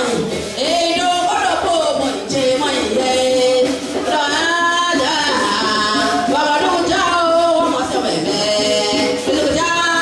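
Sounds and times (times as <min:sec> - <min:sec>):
music: 0:00.0 - 0:10.0.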